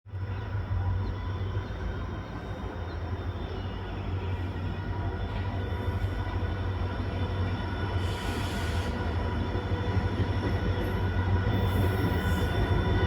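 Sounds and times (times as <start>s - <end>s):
train approaching hum: 0.1s - 13.0s.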